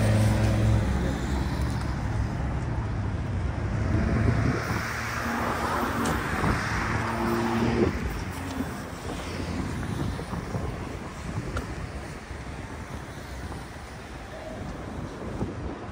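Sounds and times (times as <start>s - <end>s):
vehicle tyres passing: 0.0s - 15.9s.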